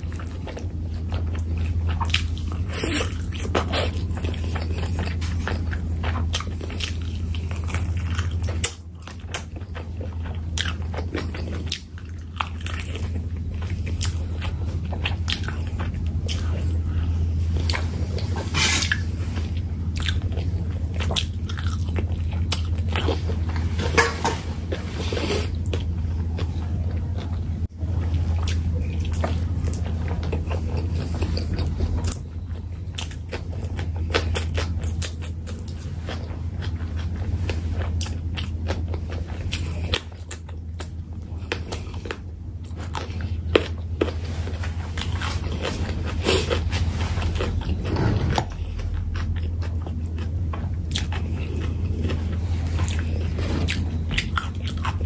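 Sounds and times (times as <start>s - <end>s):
wet chewing and lip smacking: 0.0s - 23.7s, 24.7s - 55.0s
low hum: 0.0s - 55.0s.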